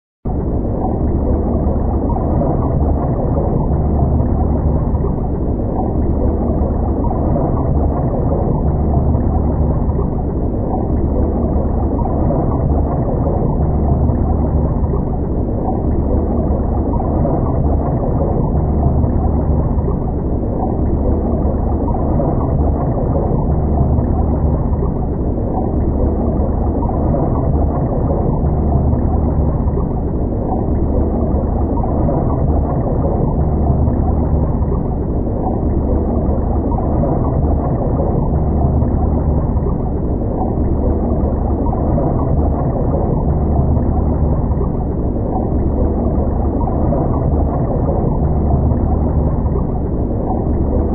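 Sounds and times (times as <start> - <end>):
muffled underwater rumble: 0.3 - 50.9.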